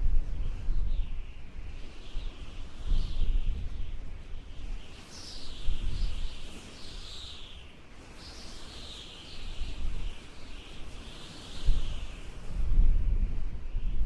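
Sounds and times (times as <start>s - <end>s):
songbirds chirping: 0.4s - 12.5s.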